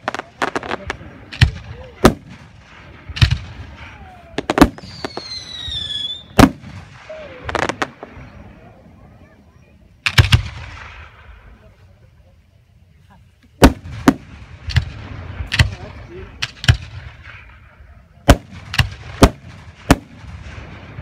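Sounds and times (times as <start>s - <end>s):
fireworks bangs with crackle: 0.0s - 11.8s, 13.5s - 21.0s.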